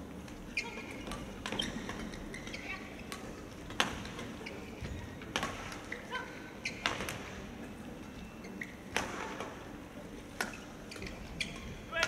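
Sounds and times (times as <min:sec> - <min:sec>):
shoes squeaking on court: 0:00.2 - 0:09.1, 0:10.2 - 0:11.9.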